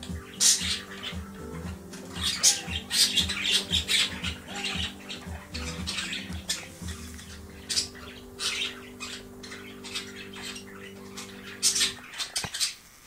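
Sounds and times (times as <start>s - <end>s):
low steady hum: 0.0s - 12.4s
budgerigars chirping and squawking: 0.0s - 12.8s.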